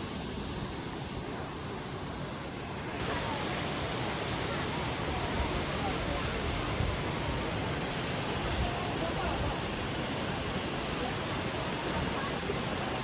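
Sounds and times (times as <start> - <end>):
rushing water roar: 0.0 - 13.0
faint voices: 0.9 - 13.0.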